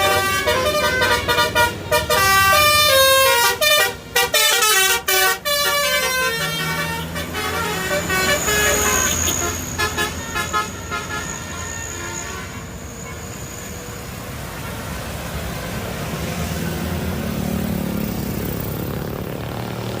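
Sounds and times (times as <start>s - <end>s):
multi-tone bus horn toots: 0.0s - 16.8s
traffic noise: 0.0s - 20.0s
vehicle engine: 0.0s - 20.0s.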